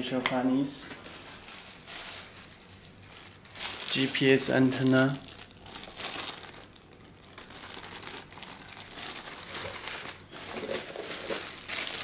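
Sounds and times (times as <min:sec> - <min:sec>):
plastic bags crinkling: 0:00.8 - 0:12.0.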